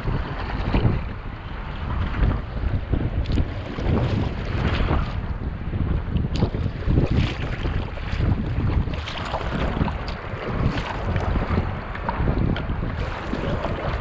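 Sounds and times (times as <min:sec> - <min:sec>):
paddle blades splashing: 0:00.0 - 0:14.0
water sloshing around hull: 0:00.0 - 0:14.0
wind buffeting microphone: 0:00.0 - 0:14.0.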